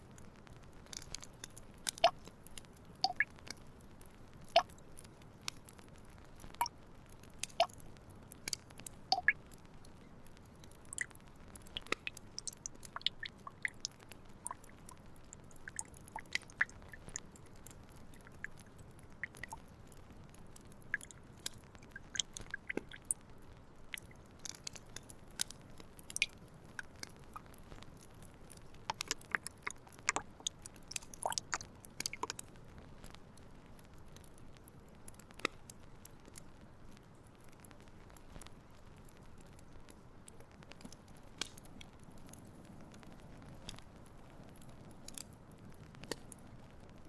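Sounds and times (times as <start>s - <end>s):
faint steady hiss: 0.0s - 47.0s
light clicks and crackles: 0.0s - 47.0s.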